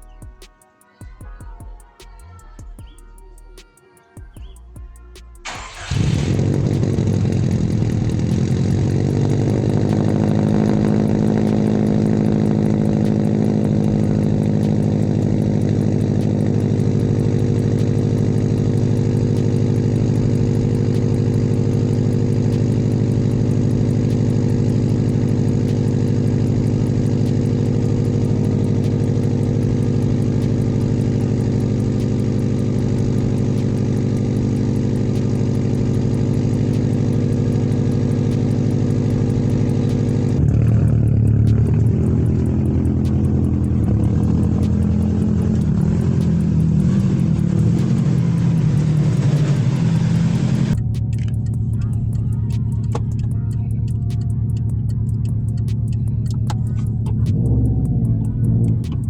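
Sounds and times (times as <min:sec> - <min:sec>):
car engine idling loudly: 0:05.4 - 0:59.0.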